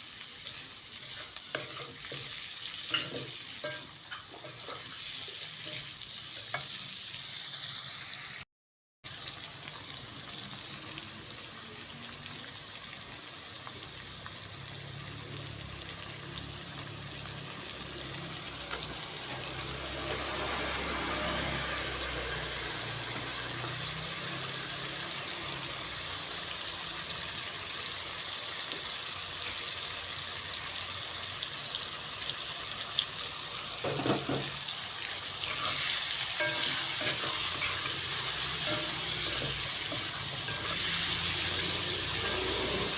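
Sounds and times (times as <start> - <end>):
food sizzling in a pan: 0.0 - 8.5, 9.1 - 42.9.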